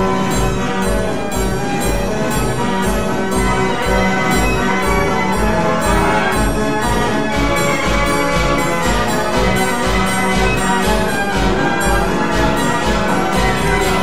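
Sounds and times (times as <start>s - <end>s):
band organ playing a march: 0.0s - 14.0s.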